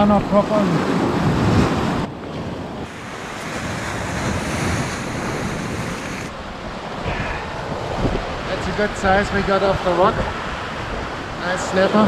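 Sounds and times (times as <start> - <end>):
sea waves washing over rocks: 0.0 - 12.0
wind buffeting microphone: 0.0 - 12.0.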